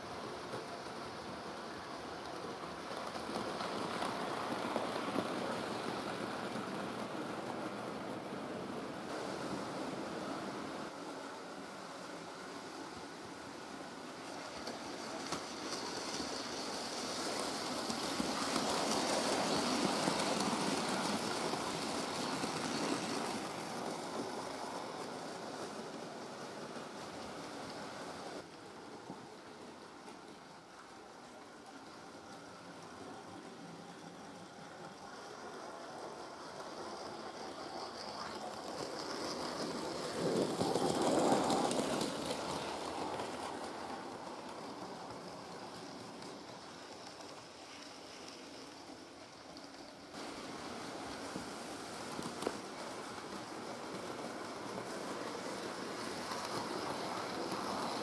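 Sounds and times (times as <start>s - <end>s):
model train wheels rumbling: 0.0s - 58.0s.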